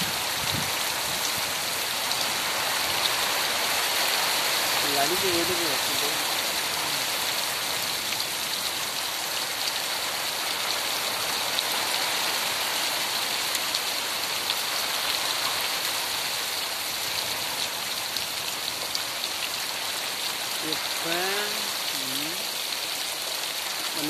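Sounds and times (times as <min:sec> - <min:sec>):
heavy rain on earth: 0:00.0 - 0:24.0.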